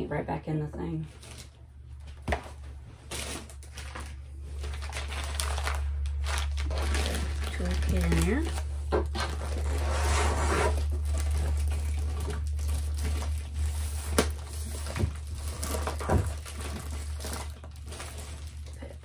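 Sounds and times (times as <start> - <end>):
steady low hum: 0.0 - 19.0
plastic crinkling: 1.1 - 19.0.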